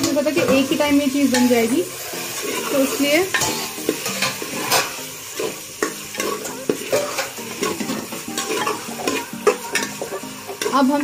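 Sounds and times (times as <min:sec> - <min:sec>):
metal spoon scraping a pot: 0:00.0 - 0:10.9
food sizzling: 0:00.0 - 0:11.0.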